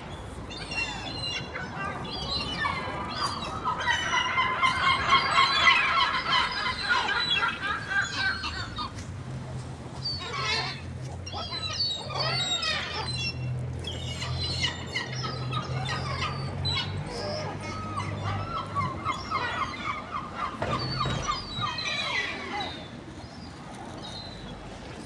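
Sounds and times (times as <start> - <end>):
seagulls squawking: 0.0 - 25.0.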